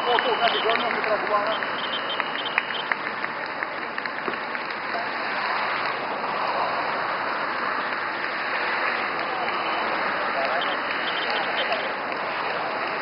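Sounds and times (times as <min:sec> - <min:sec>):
spectators applauding: 0:00.0 - 0:13.0.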